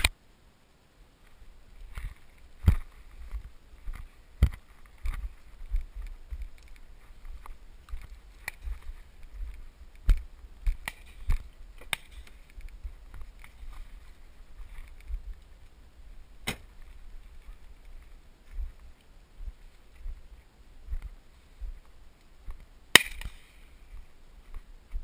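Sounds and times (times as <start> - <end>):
wind rumble on microphone: 1.4 - 22.8.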